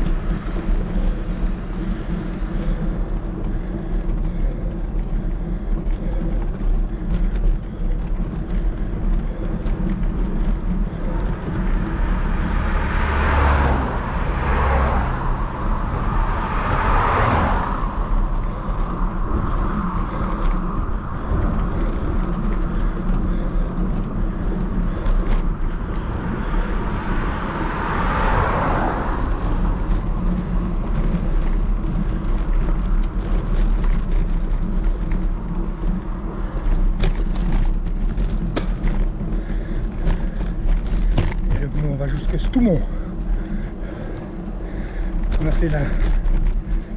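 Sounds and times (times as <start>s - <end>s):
road noise: 0.0s - 46.9s
wind rumble on microphone: 0.0s - 46.9s.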